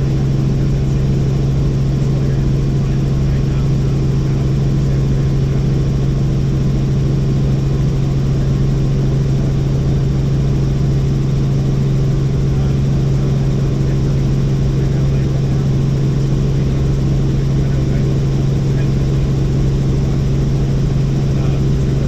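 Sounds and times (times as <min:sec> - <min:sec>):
constant hum: 0:00.0 - 0:22.0
helicopter cabin drone: 0:00.0 - 0:22.0.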